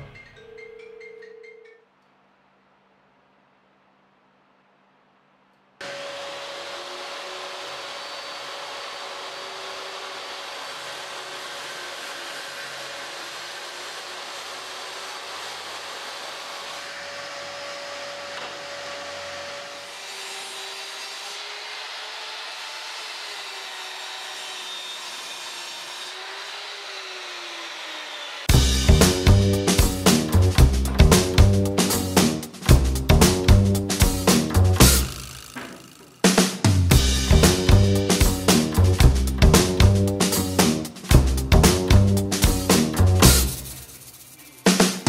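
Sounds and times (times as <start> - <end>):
table saw ripping wood: 5.8 - 32.7, 33.3 - 43.7
mitre saw cutting board: 5.8 - 44.0.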